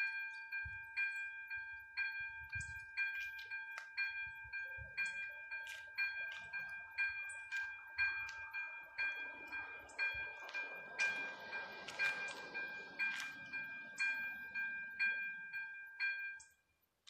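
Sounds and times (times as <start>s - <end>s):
crossing warning bell ringing: 0.0s - 16.7s.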